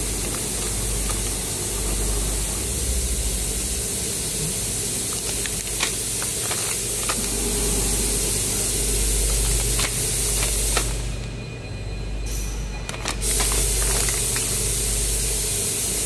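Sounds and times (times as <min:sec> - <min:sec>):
low machinery hum: 0:00.0 - 0:15.6
machinery hiss: 0:00.0 - 0:16.0.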